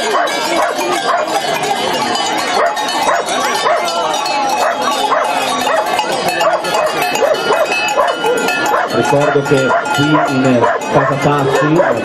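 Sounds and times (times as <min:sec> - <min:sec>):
small bells clinking: 0:00.0 - 0:12.0.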